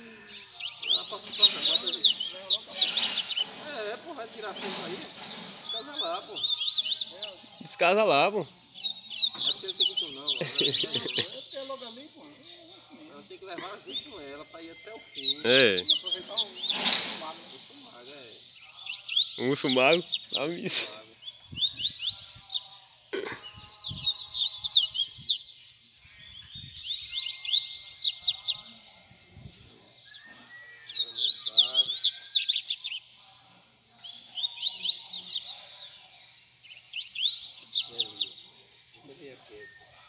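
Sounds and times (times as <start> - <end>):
birds singing: 0.0 - 40.0.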